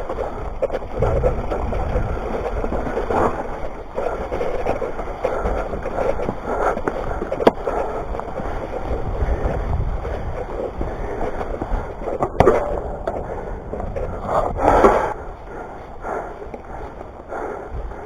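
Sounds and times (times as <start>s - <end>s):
bike tyres rushing on dirt: 0.0s - 18.0s
wind: 0.0s - 18.0s.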